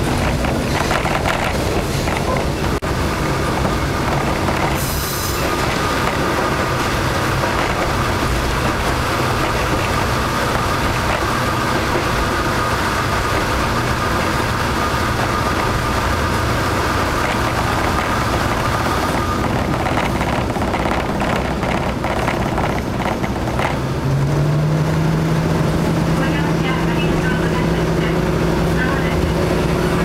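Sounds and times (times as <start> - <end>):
railcar engines and wheels rumbling: 0.0 - 30.0.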